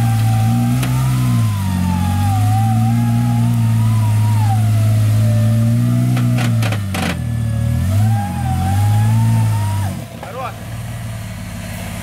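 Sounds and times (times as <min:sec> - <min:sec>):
car engine revving high: 0:00.0 - 0:12.0.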